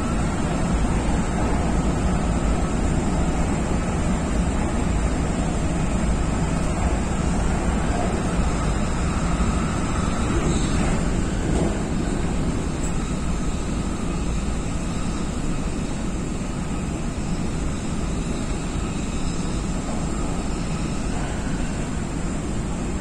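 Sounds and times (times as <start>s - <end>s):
train wheels and motors rumbling: 0.0s - 23.0s.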